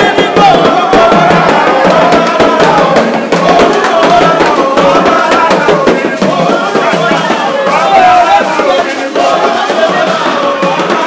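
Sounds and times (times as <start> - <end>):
hand drum and percussion: 0.0 - 11.0.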